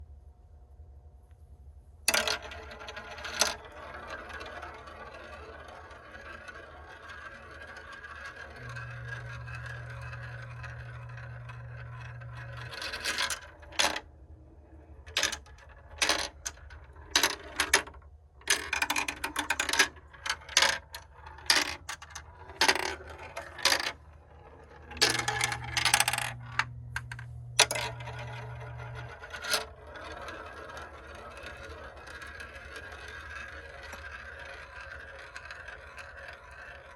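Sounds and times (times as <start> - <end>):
marbles clicking against track: 2.1 - 14.0, 15.0 - 36.9
marbles rolling on plastic track: 2.1 - 36.9.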